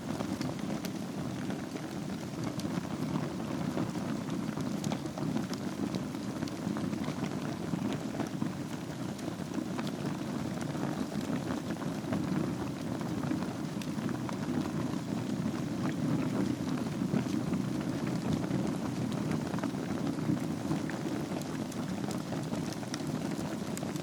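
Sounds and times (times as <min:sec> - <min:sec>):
fire crackles and pops: 0:00.0 - 0:24.0
fire flames rumbling: 0:00.0 - 0:24.0.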